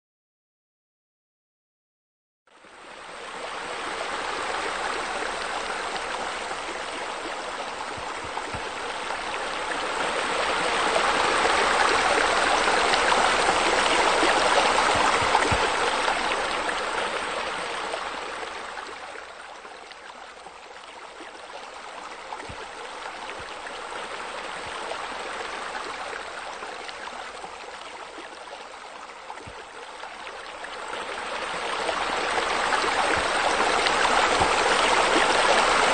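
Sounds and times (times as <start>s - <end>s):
running water rushing: 2.7s - 35.9s.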